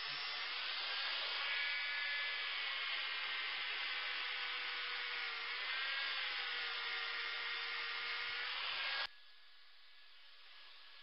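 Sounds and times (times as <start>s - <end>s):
angle grinder whining: 0.0s - 9.2s, 9.8s - 11.0s.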